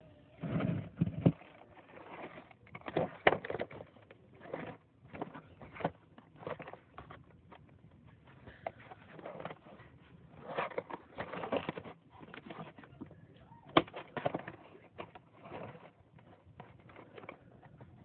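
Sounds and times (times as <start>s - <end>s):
toy packaging rustling and clicking: 0.6s - 18.0s.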